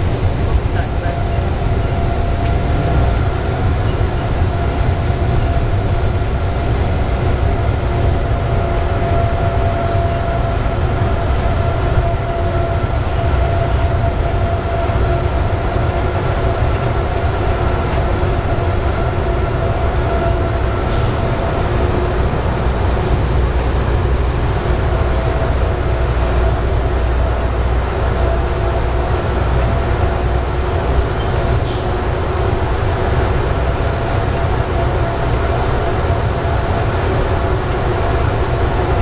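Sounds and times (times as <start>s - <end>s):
steady tram whine: 0.0s - 39.0s
tram wheels rumbling: 0.0s - 39.0s.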